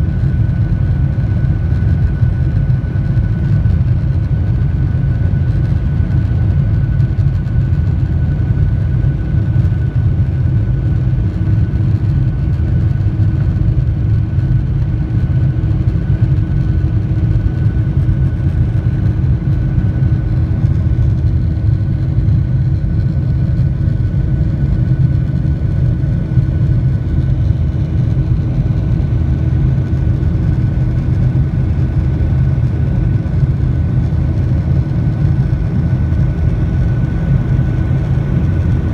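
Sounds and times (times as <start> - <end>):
jet engine roar with whine: 0.0 - 38.9.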